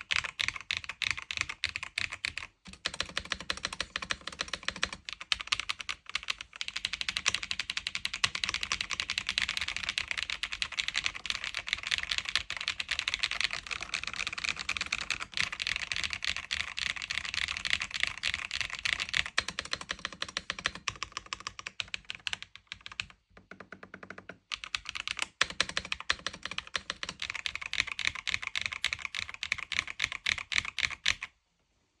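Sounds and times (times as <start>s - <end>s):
fast typing on mechanical keyboard: 0.0s - 31.3s.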